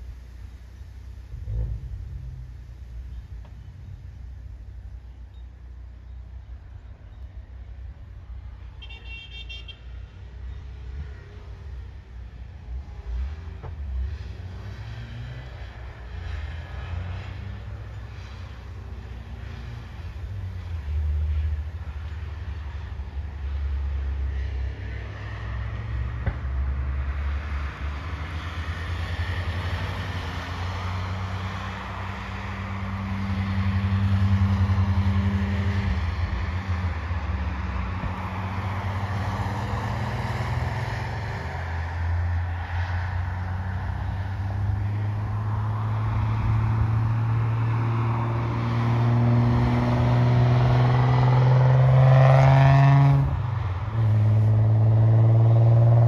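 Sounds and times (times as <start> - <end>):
race car engine: 10.6 - 56.0.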